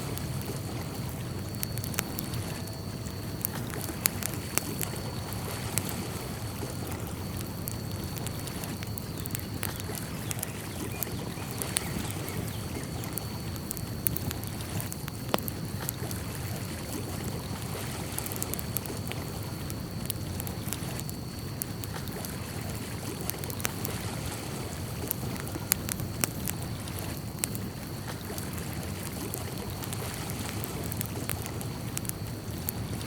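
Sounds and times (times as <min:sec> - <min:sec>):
small ticks and clicks: 0:00.0 - 0:33.0.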